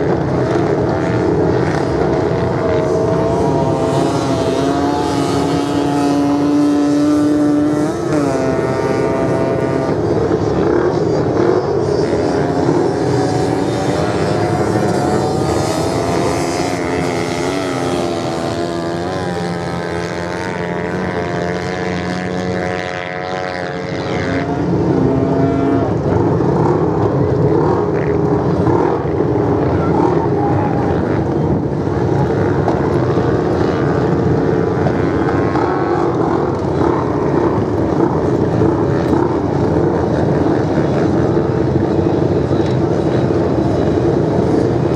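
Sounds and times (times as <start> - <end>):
motorcycle engines racing: 0.0 - 44.9.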